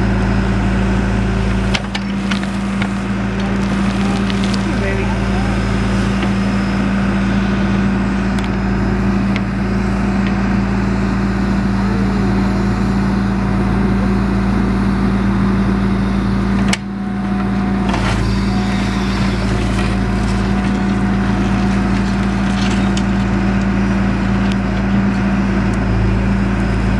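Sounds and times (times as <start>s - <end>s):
backhoe engine running: 0.0s - 26.9s.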